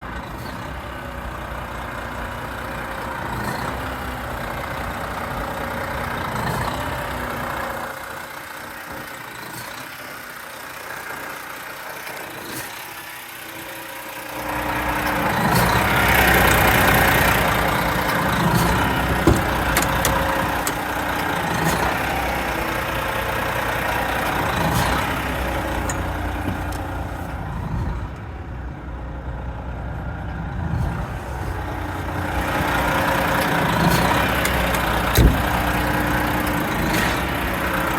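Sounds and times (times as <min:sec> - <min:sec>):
diesel truck idling: 0:00.0 - 0:37.9.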